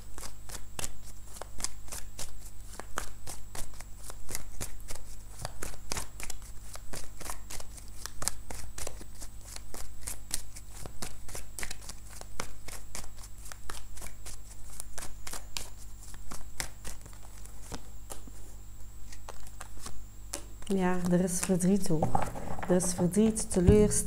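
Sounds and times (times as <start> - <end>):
cards being shuffled: 0.2 - 24.0.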